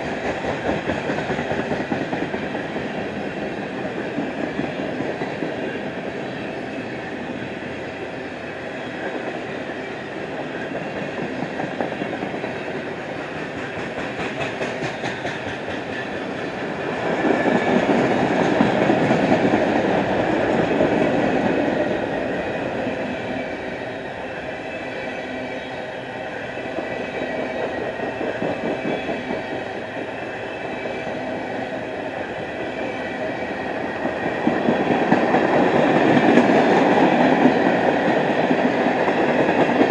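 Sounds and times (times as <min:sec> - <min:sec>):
freight train wheels clicking: 0:00.0 - 0:07.2, 0:09.0 - 0:24.3, 0:26.7 - 0:39.9.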